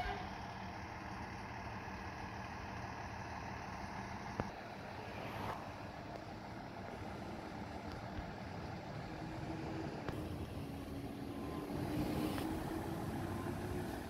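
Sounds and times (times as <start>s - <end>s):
fire truck engine running: 0.0s - 14.0s.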